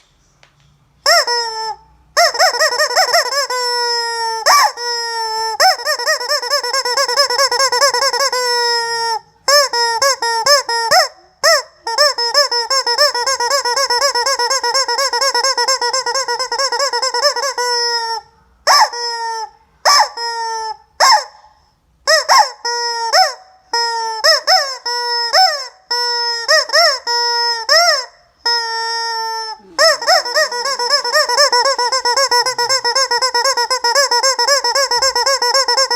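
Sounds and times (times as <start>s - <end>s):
rubber chicken toy squawking: 1.0s - 35.9s.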